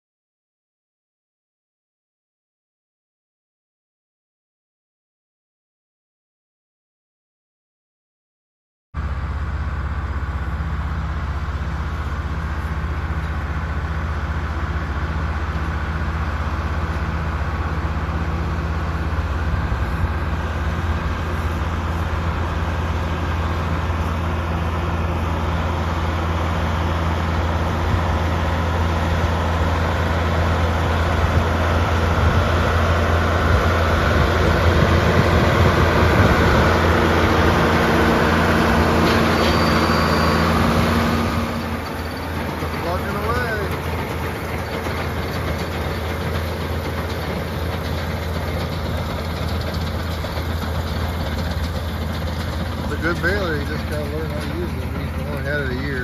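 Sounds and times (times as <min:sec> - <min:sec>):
tractor diesel engine under load: 0:09.0 - 0:56.0.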